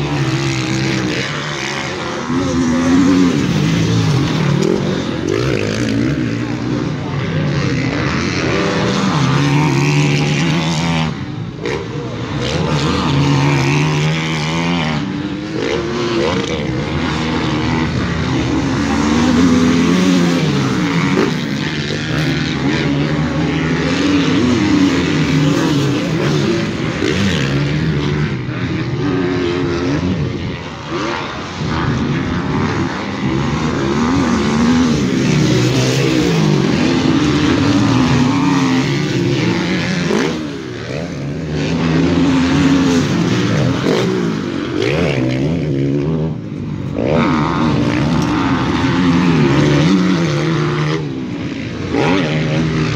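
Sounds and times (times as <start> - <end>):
motocross bikes revving: 0.0 - 52.9.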